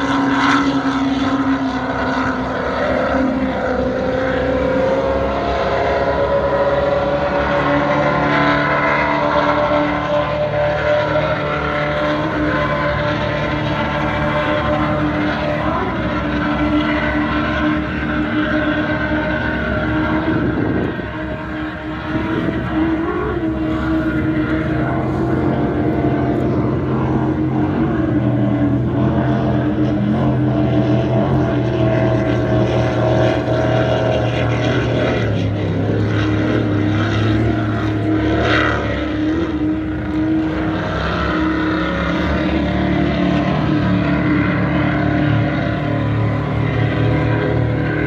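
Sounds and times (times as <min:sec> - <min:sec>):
powerboat engines droning: 0:00.0 - 0:48.0.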